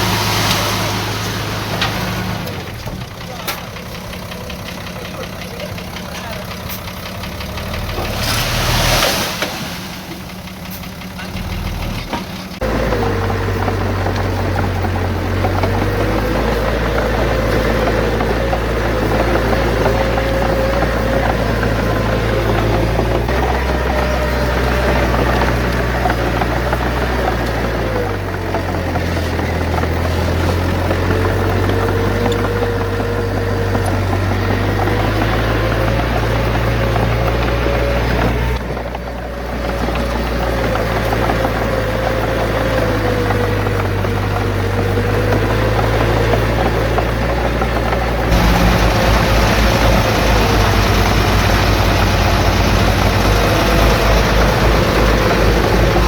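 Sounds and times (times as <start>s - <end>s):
heavy diesel machinery under load: 0.0s - 56.0s.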